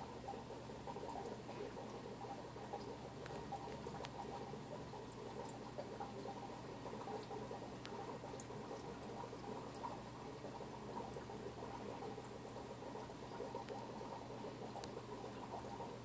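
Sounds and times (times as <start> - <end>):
aquarium filter water bubbling: 0.0 - 16.0.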